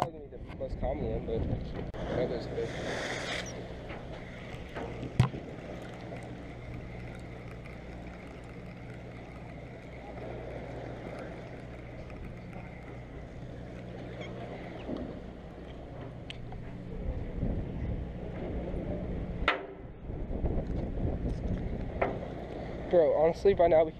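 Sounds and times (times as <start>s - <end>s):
water: 0.0s - 23.9s
wind: 0.0s - 23.9s
boat engine humming: 0.8s - 23.9s.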